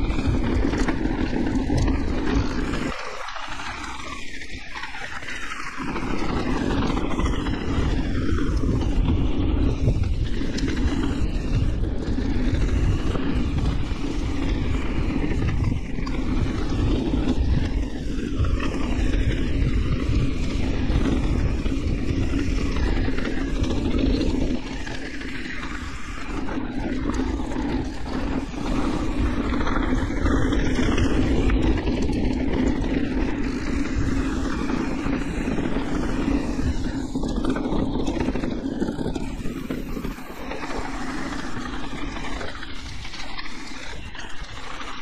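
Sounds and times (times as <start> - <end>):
bike rumbling on dirt trail: 0.0 - 45.0.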